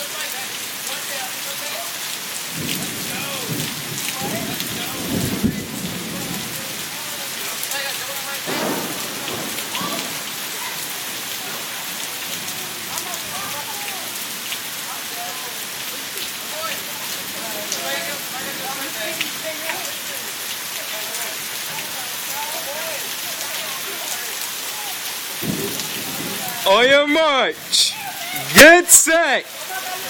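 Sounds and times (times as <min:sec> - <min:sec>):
heavy rain splashing: 0:00.0 - 0:30.0.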